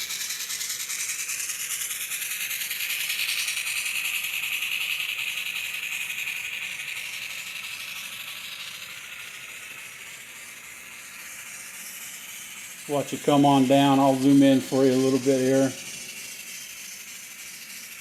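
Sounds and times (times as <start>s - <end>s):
model train whine: 0.0s - 18.0s
train wheels clicking: 0.0s - 18.0s.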